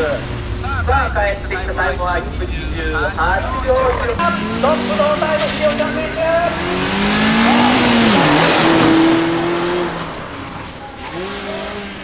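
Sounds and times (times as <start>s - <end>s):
car engine accelerating: 0.0s - 12.0s
tyre and road noise: 0.0s - 12.0s.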